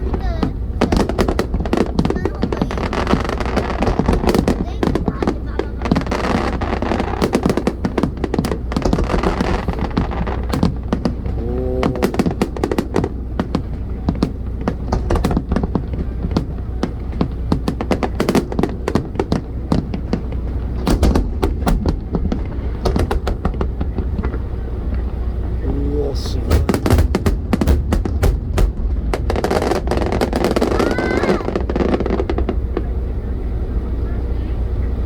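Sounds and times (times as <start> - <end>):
fireworks bursting and crackling: 0.0 - 33.3
steady low rumble: 0.0 - 35.0.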